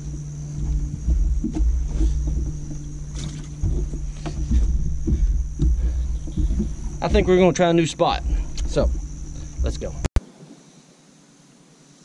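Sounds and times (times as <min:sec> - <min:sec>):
gusty low rumble: 0:00.0 - 0:10.1
knocks and thumps on a boat: 0:00.0 - 0:10.1
steady low hum: 0:00.0 - 0:10.2.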